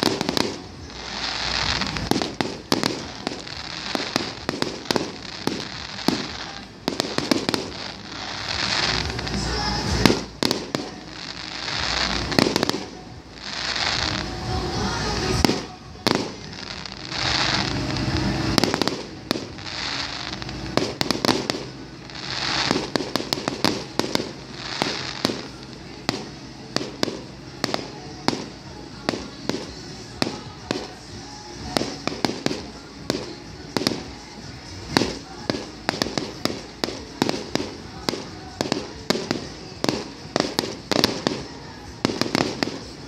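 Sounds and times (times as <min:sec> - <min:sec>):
fireworks hissing: 0:00.0 - 0:43.0.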